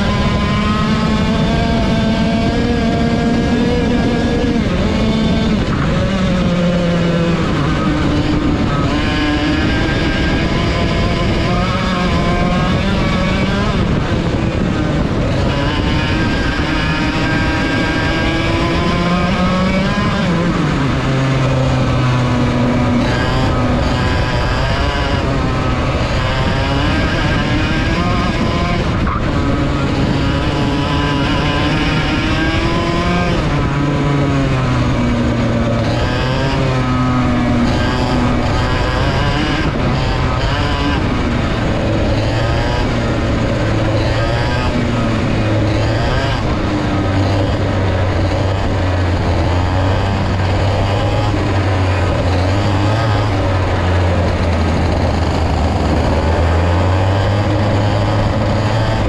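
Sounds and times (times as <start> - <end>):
kart engine revving: 0.0 - 59.0
other kart engines: 0.0 - 59.0.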